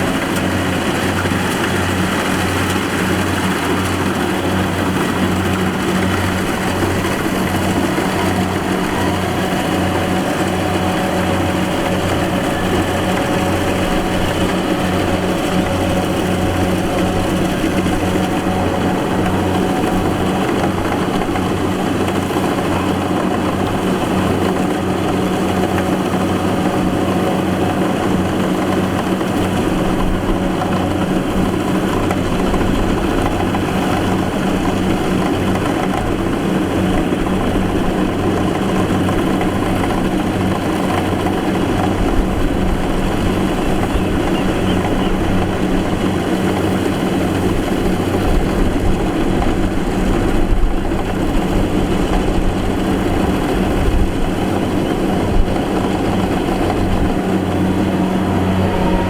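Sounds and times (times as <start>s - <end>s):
harvester engine humming: 0.0s - 59.0s.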